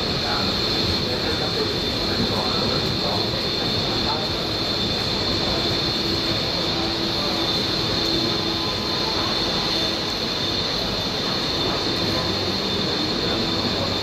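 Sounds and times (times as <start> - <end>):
high steady squeal: 0.0 - 14.0.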